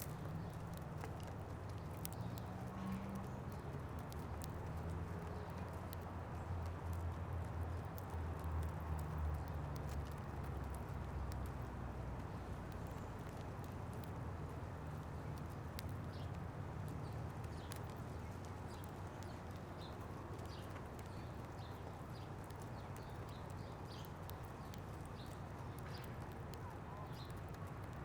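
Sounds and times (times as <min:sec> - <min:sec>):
beaks pecking seed: 0:00.0 - 0:28.0.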